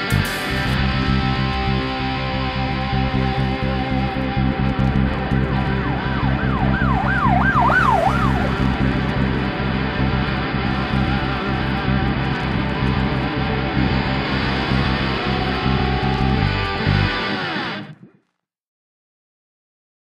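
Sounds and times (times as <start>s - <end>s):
electric guitar rock music: 0.0s - 18.2s
guitar lead pitch bends: 0.0s - 18.2s.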